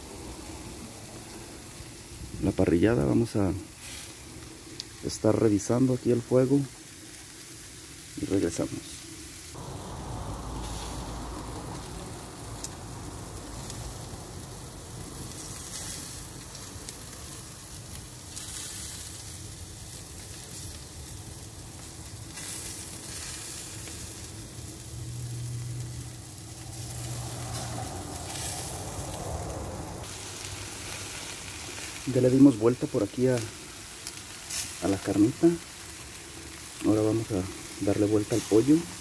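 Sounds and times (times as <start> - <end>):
meat sizzling on grill: 0.0 - 39.0.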